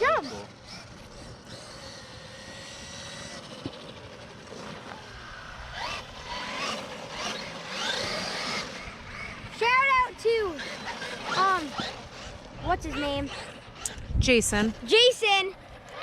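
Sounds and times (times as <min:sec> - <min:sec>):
toy car electric motor whining: 0:00.0 - 0:14.1.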